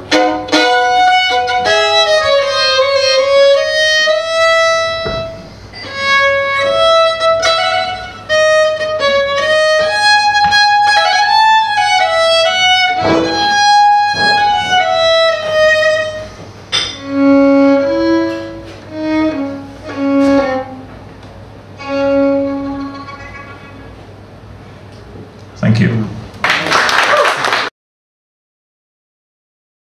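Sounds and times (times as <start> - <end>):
solo violin slow melody: 0.0 - 24.0.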